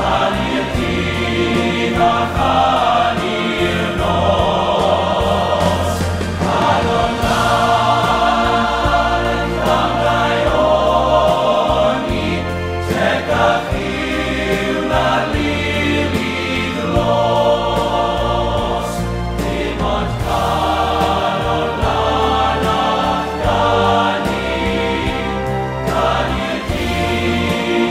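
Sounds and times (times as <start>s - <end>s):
bass accompaniment: 0.0s - 27.9s
choir singing: 0.0s - 27.9s.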